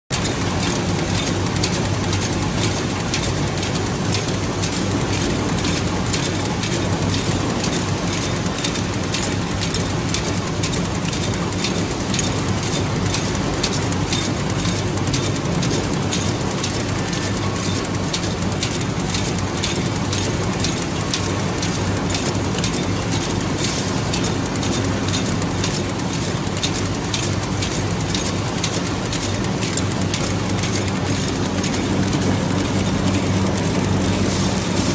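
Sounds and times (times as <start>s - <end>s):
machine humming: 0.1s - 34.9s
rapid clicking and rattling: 0.1s - 34.9s.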